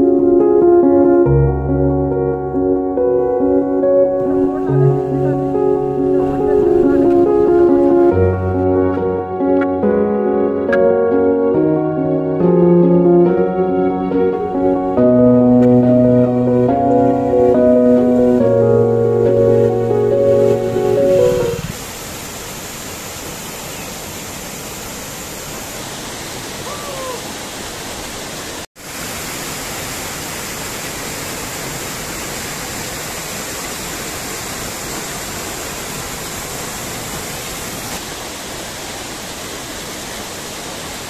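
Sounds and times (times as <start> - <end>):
falling water rushing: 0.0 - 41.0.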